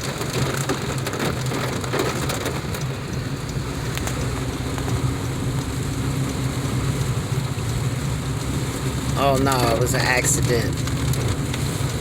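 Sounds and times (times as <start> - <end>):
engine and road drone: 0.0 - 12.0
rain hitting car: 0.0 - 12.0
sharp taps of raindrops: 0.0 - 12.0.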